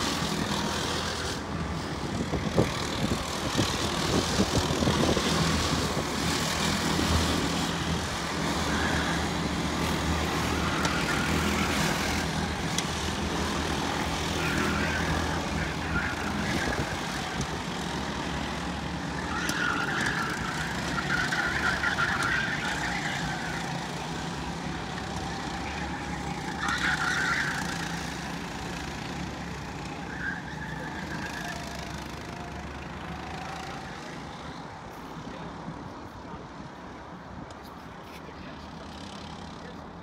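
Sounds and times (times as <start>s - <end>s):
racing kart engines droning past: 0.0s - 35.5s, 38.4s - 40.0s.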